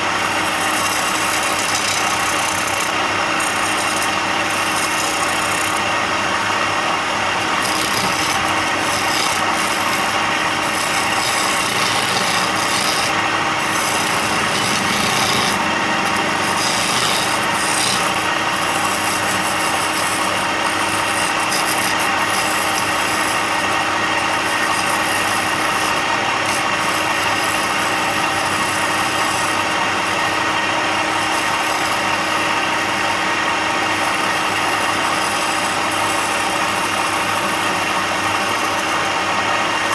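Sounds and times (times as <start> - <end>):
power tool sanding wood: 0.0 - 39.9.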